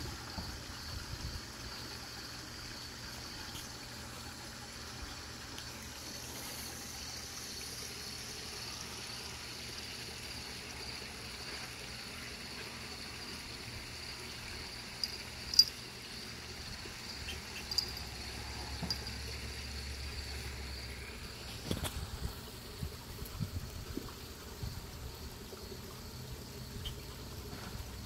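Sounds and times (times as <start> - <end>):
high-pitched outdoor hiss: 0.0 - 28.0.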